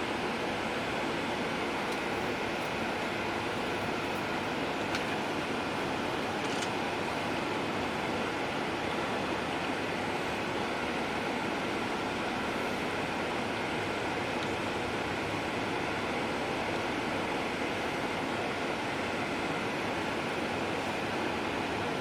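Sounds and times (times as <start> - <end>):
bus road and engine noise: 0.2 - 22.0.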